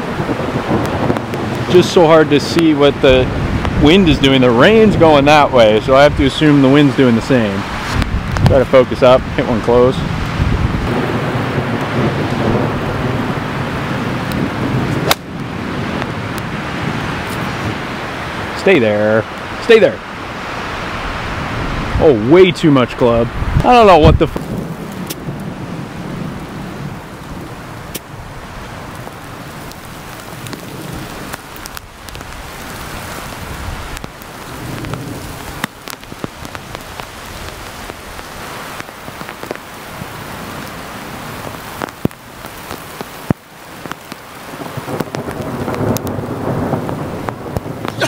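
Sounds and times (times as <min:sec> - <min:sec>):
heavy rain falling: 0:00.0 - 0:48.0
wind rumbling on microphone: 0:00.0 - 0:48.0.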